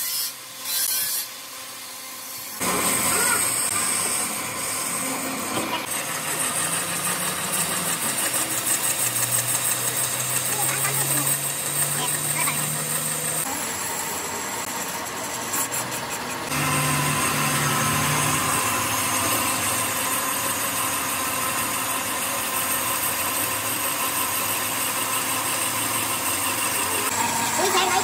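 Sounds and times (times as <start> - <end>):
metal lathe running: 0.0 - 28.0.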